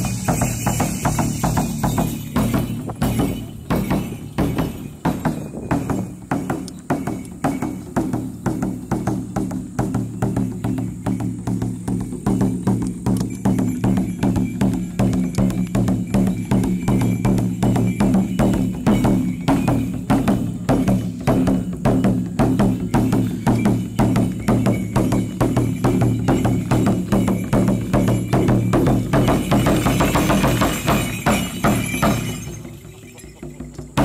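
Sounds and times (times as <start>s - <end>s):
steady drumbeat: 0.0s - 34.0s.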